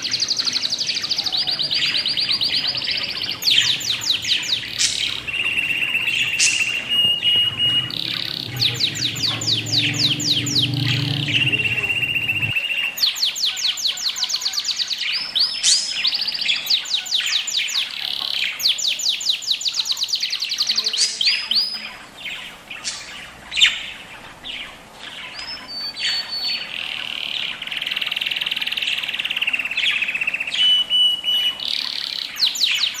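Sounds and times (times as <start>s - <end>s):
budgerigars chirping: 0.0s - 33.0s.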